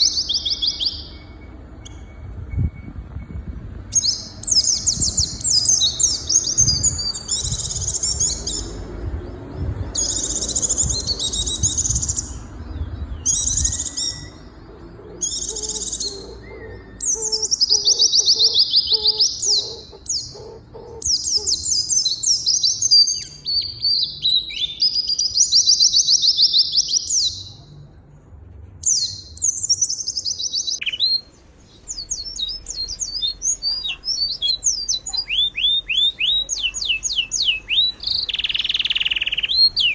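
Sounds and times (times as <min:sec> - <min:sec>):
small birds chirping: 0:00.0 - 0:28.2, 0:28.8 - 0:39.9.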